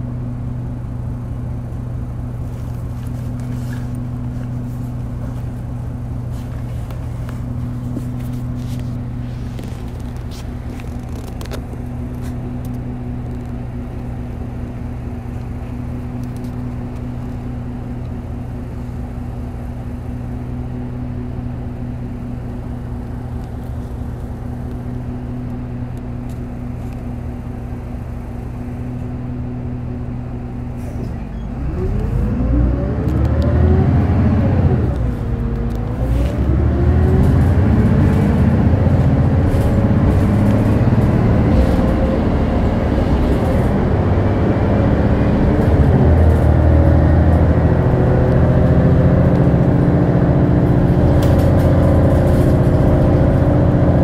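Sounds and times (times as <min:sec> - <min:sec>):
bus diesel engine idling and accelerating: 0:00.0 - 0:54.0.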